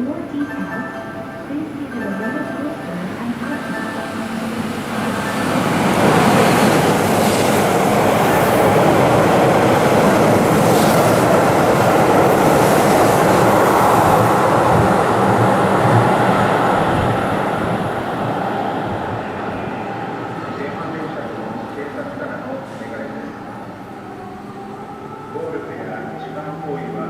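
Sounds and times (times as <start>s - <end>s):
electric train running: 1.5s - 27.0s.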